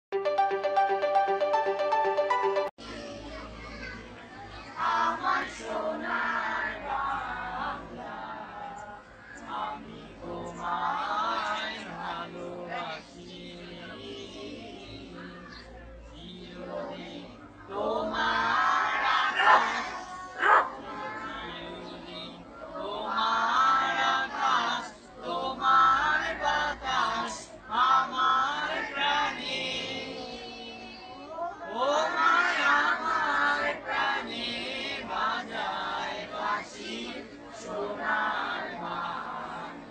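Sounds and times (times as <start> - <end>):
children singing in chorus: 4.7 - 15.6, 16.2 - 39.9.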